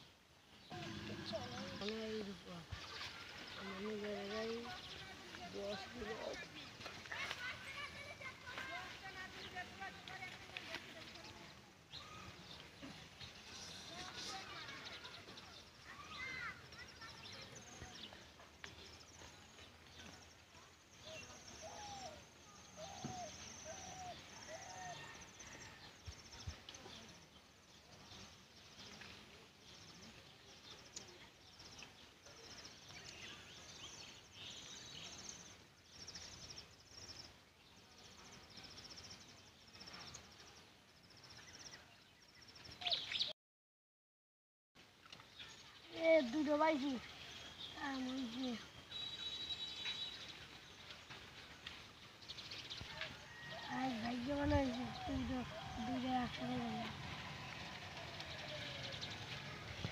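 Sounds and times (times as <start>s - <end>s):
birds chirping: 0.0s - 43.3s, 44.8s - 59.9s.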